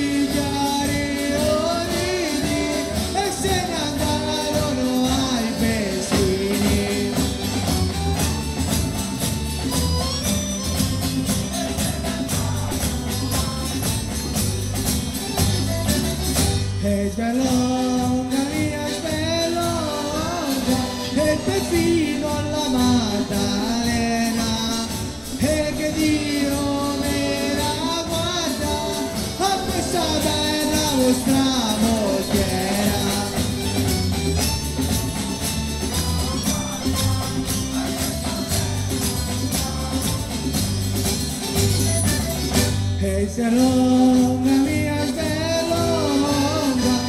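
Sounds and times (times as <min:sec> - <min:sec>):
people singing: 0:00.0 - 0:09.1, 0:10.8 - 0:47.0
tambourines jingling: 0:00.0 - 0:16.8, 0:17.4 - 0:47.0
folk band playing: 0:00.0 - 0:47.0.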